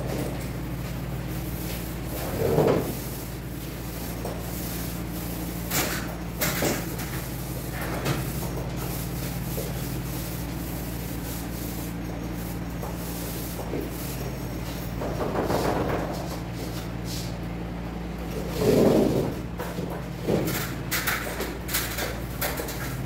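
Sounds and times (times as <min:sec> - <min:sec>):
paint rollers rubbing on wall: 0:00.0 - 0:17.5, 0:18.2 - 0:23.0
steady low hum: 0:00.0 - 0:23.0.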